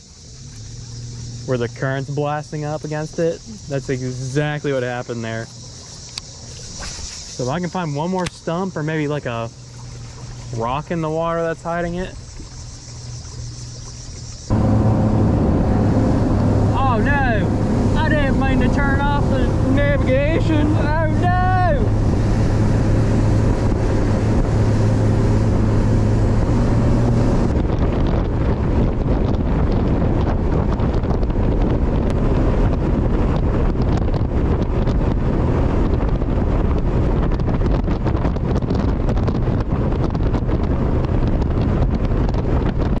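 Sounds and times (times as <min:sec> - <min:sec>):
outboard motor humming: 0:00.0 - 0:43.0
wind buffeting microphone: 0:00.0 - 0:43.0.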